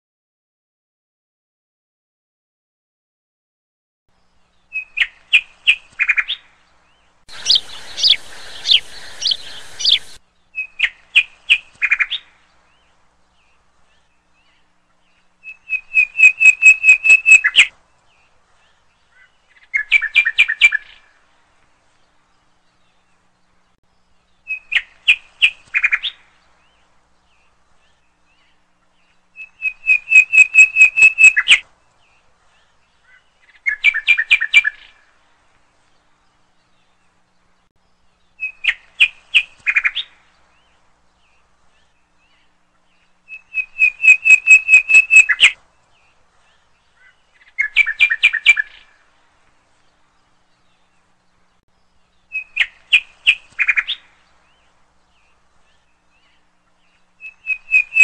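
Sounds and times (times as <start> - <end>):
songbird chirping: 4.1 - 58.0.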